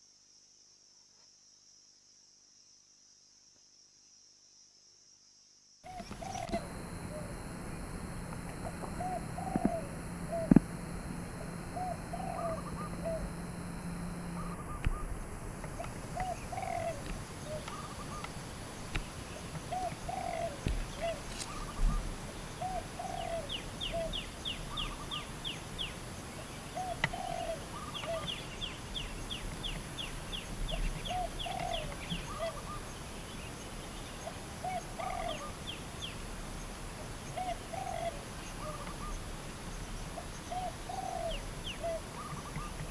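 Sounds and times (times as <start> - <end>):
doves cooing: 5.9 - 33.1, 34.1 - 36.2, 37.0 - 42.9.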